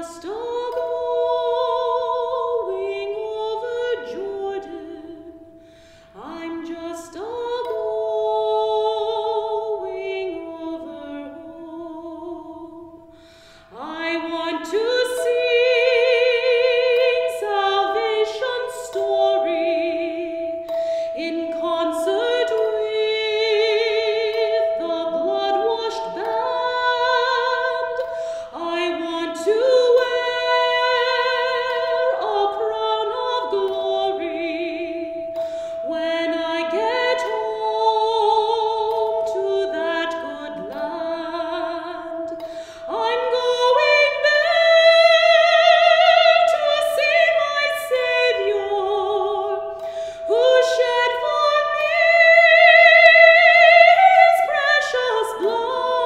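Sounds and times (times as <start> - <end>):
woman singing with vibrato: 0.0 - 56.0.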